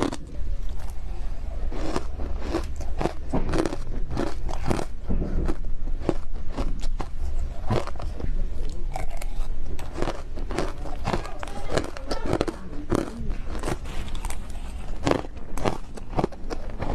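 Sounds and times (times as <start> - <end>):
ice crunching between teeth: 0.0 - 1.0, 1.7 - 16.9.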